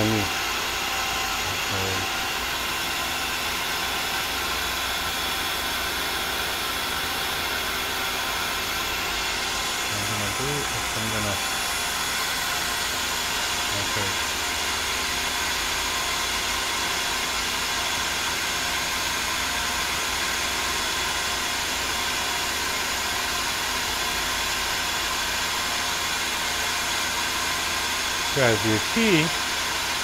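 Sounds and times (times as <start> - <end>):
lathe spindle whirring: 0.0 - 30.0.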